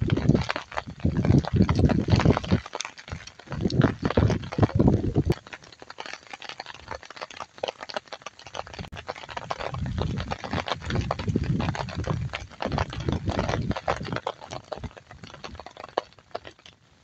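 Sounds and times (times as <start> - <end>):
footsteps splashing on wet bricks: 0.0 - 16.8
rain pattering: 0.0 - 17.0.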